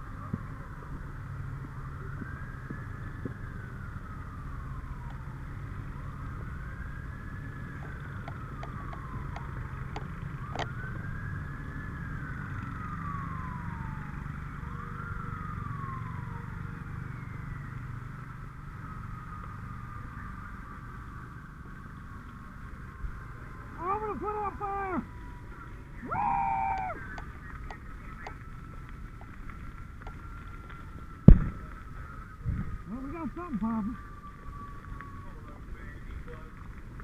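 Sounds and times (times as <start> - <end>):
fire truck siren wailing: 0.0 - 37.0
truck engine and road noise: 0.0 - 37.0.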